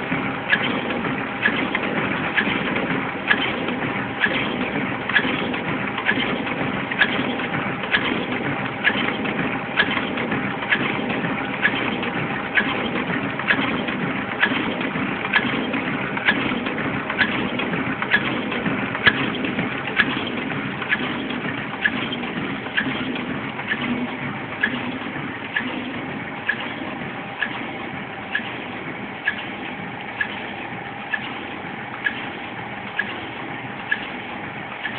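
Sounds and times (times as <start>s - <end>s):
machine clicking: 0.0s - 34.9s
machine humming: 0.0s - 34.9s.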